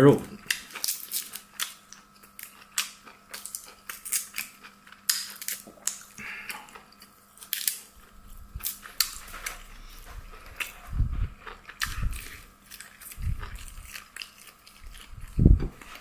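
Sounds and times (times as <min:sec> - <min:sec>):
person chewing: 0:00.3 - 0:16.0.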